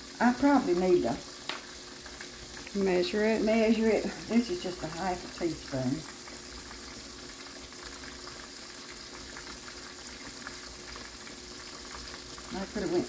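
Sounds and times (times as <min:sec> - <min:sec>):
fish deep-frying in oil: 0:00.0 - 0:13.0.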